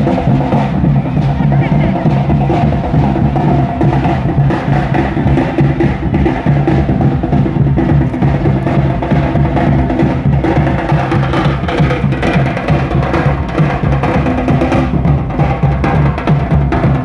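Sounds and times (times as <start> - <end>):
busy drum beat: 0.0 - 17.0.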